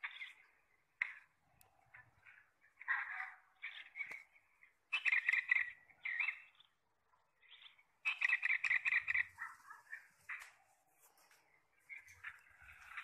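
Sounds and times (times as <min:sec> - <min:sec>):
bulbul chattering calls: 0:00.0 - 0:06.8, 0:07.4 - 0:13.0.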